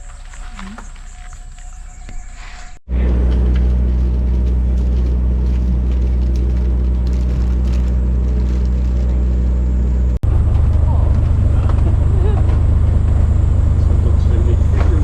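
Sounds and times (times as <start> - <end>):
boat engine drone: 2.9 - 15.0.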